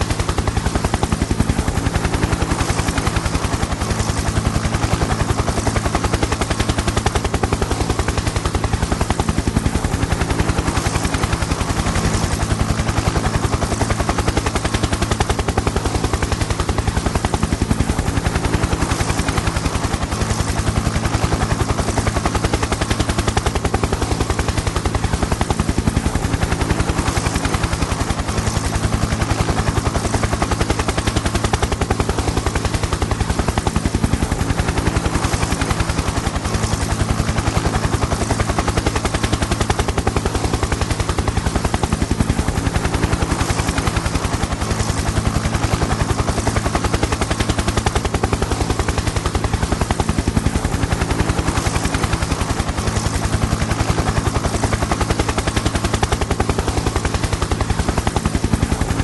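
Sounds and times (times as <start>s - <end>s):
helicopter engine drone: 0.0s - 59.0s
helicopter rotor chop: 0.0s - 59.0s.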